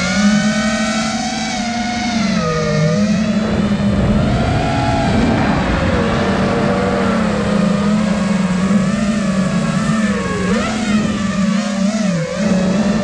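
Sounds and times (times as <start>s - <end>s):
drone motors whining: 0.0s - 13.0s
wind noise: 0.0s - 13.0s.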